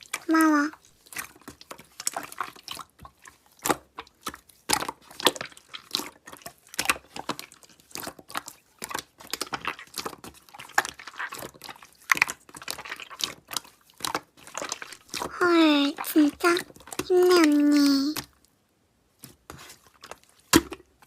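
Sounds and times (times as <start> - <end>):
slime squished by hand: 0.0 - 18.5, 19.2 - 21.0.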